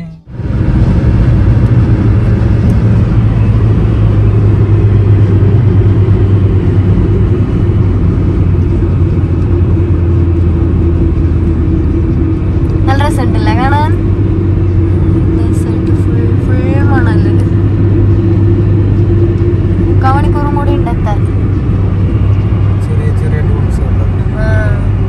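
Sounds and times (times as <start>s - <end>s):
car road and wind noise: 0.0s - 25.0s.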